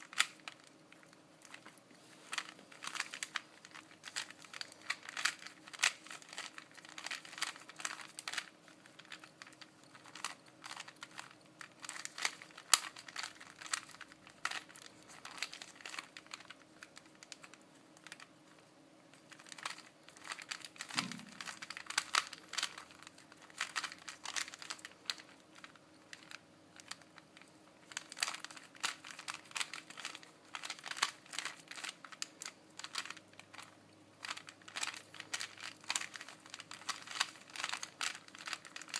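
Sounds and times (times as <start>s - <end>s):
rubik's cube plastic clicking: 0.0s - 1.7s, 2.3s - 18.3s, 19.2s - 38.9s.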